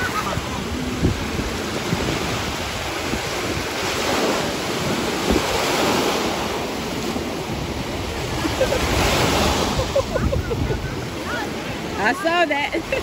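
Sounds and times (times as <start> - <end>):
small waves breaking: 0.0 - 13.0
wind buffeting microphone: 0.0 - 13.0.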